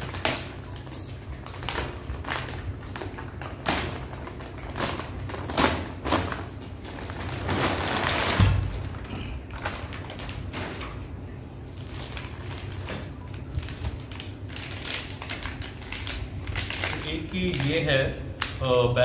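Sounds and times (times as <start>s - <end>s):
packaging rustling: 0.0s - 11.1s, 11.7s - 18.5s.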